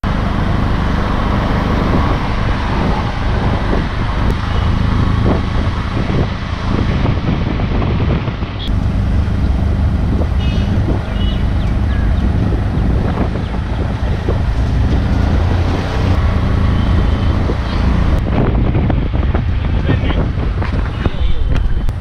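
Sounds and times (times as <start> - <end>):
auto-rickshaw engine running: 0.0 - 22.0
road and wind noise: 0.0 - 22.0.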